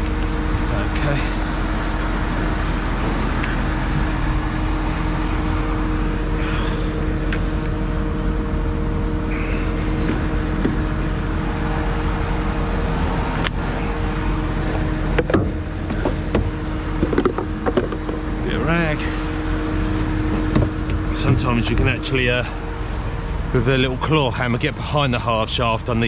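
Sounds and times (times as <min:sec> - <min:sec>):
lorry diesel engine idling: 0:00.0 - 0:26.0.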